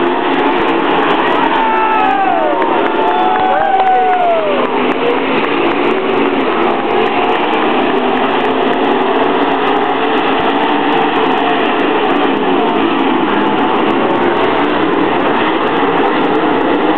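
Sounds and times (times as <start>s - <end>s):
race car engines running: 0.0s - 16.9s.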